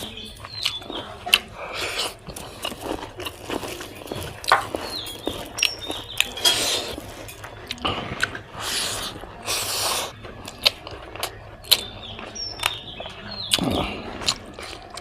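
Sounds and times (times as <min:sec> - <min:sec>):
chewing and lip smacking: 0:00.0 - 0:15.0.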